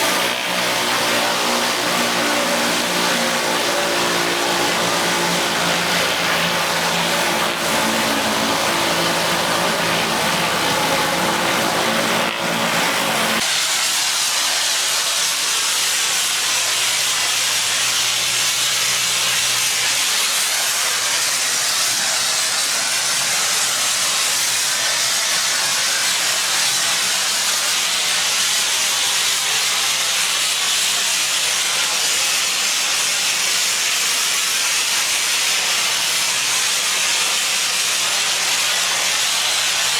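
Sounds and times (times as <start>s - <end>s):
high-pressure water spray hiss: 0.0s - 39.9s
pressure washer engine running: 0.0s - 39.9s.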